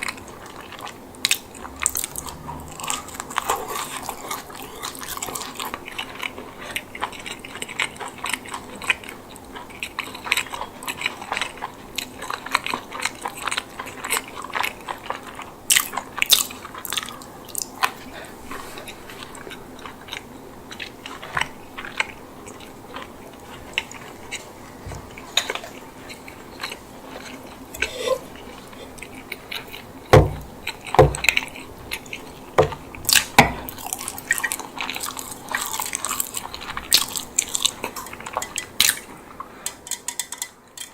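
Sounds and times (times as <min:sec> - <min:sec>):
chewing crusty food: 0:00.0 - 0:40.9.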